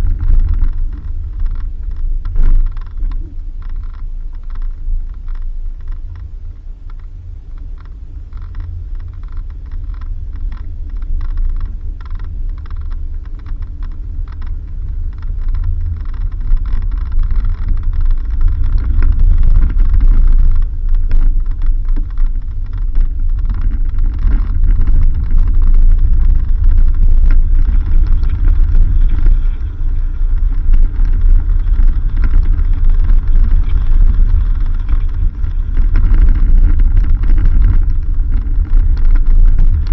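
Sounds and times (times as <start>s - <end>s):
clicks and rattles: 0.0s - 39.9s
vehicle rumbling on dirt road: 0.0s - 39.9s.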